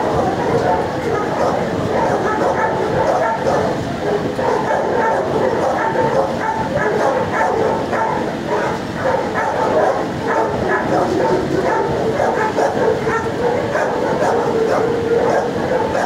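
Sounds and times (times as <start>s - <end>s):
many dogs barking: 0.0s - 16.0s.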